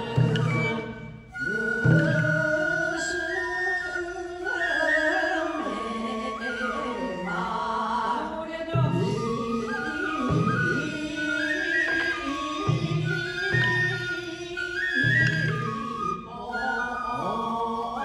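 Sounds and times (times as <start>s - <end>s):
bamboo flute melody: 0.0s - 18.0s
chanted singing: 0.0s - 18.0s.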